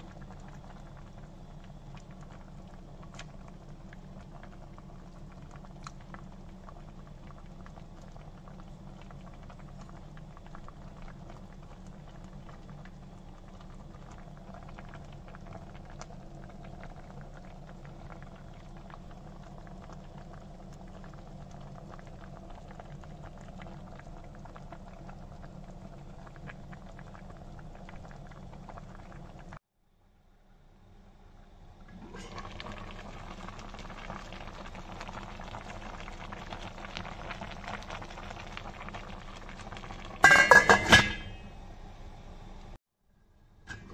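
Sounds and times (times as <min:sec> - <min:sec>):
liquid simmering with pops: 0:00.0 - 0:29.6, 0:31.8 - 0:41.4, 0:43.6 - 0:43.9.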